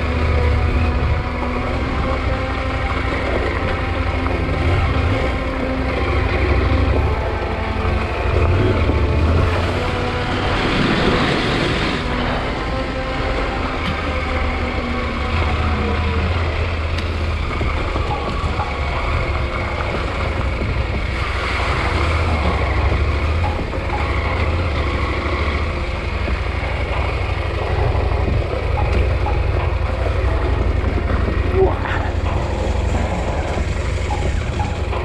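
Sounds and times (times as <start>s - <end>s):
motorcycle engine running: 0.0s - 35.0s
tyres on dirt trail: 0.0s - 35.0s
wind over microphone: 0.0s - 35.0s.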